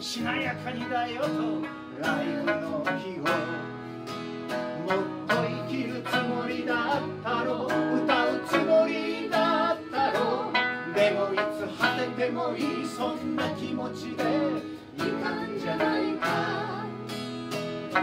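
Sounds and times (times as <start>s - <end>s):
man singing: 0.0s - 3.8s, 4.5s - 16.7s
plucked lute: 0.0s - 18.0s
strummed acoustic guitar: 0.0s - 18.0s.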